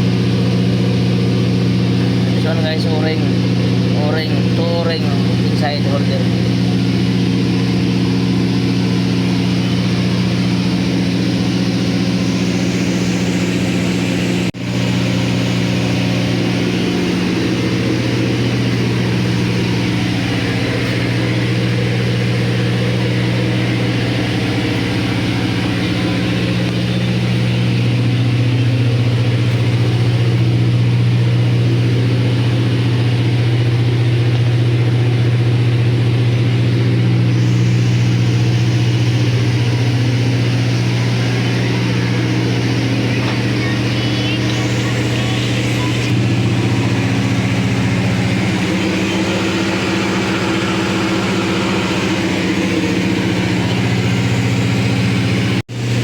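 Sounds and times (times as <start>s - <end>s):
diesel generator droning: 0.0s - 56.0s.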